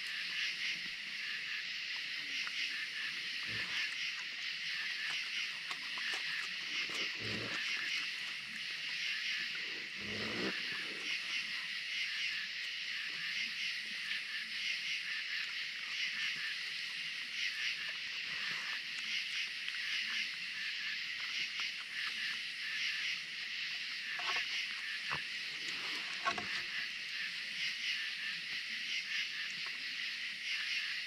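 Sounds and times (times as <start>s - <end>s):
night insects chirring: 0.0s - 31.0s
raccoons eating: 0.0s - 31.0s.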